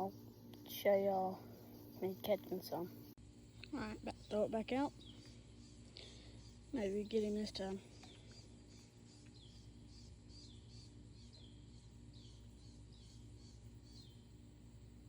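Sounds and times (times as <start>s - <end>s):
bird chirping: 0.0s - 14.4s
low background hum: 0.0s - 15.0s.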